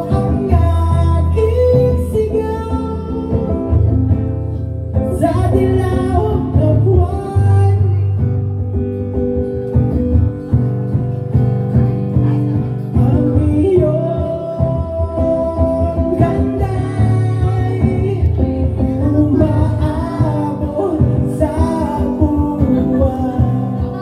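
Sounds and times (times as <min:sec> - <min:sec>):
person singing: 0:00.0 - 0:08.7, 0:12.2 - 0:24.0
acoustic guitar strumming: 0:00.0 - 0:24.0.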